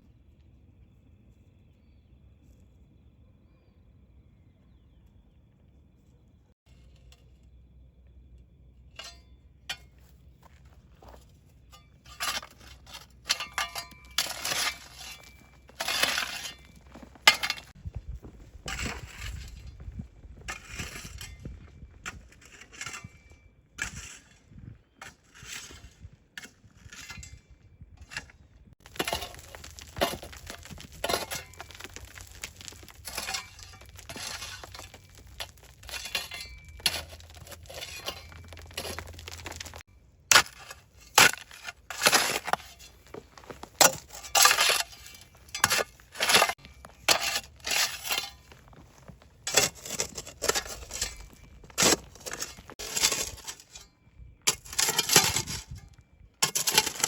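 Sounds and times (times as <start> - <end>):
crunching and scraping strokes: 8.9 - 57.0.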